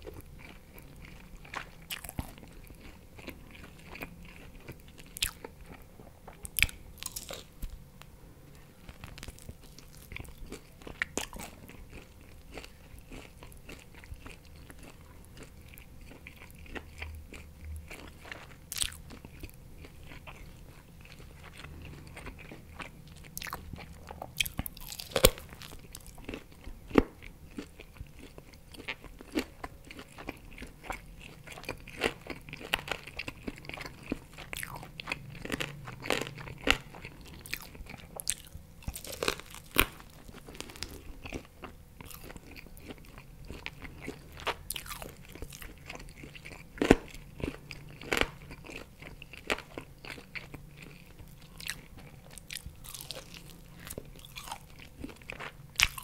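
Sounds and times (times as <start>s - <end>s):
chewing with mouth closed: 0.0s - 7.8s, 8.8s - 56.0s.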